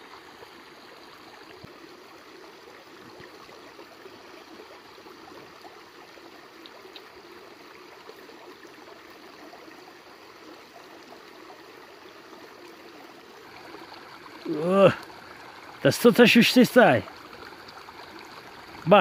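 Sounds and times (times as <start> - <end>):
stream trickling and gurgling: 0.0 - 19.0.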